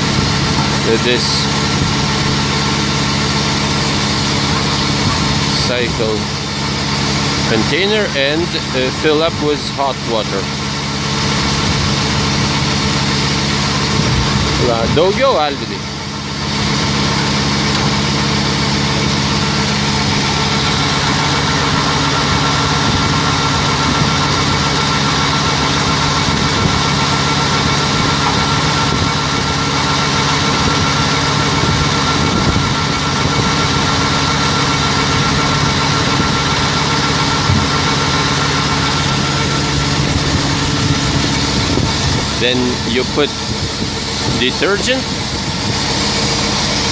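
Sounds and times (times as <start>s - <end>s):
pump drone with high whine: 0.0s - 46.9s.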